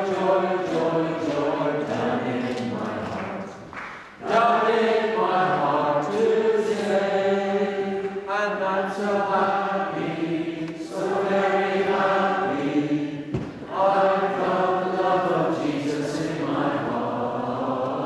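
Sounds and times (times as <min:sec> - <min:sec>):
voices singing a chant-like hymn: 0:00.0 - 0:18.0.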